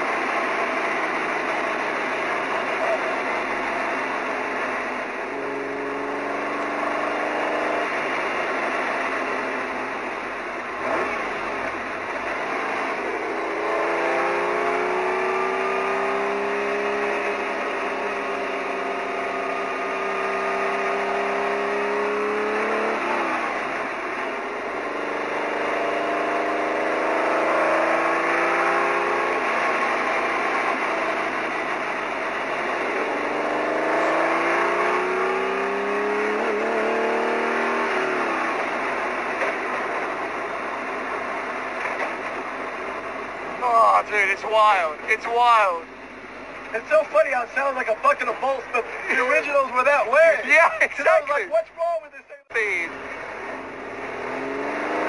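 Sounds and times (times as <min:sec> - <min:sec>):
race car engine shifting gears: 0:00.0 - 0:44.3.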